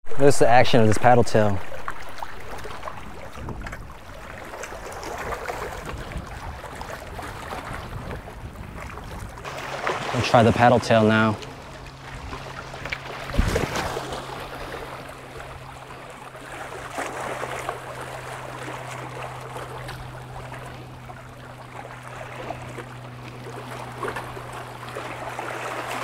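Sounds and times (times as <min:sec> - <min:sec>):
steady low hum: 0:00.1 - 0:26.0
water lapping: 0:00.1 - 0:26.0.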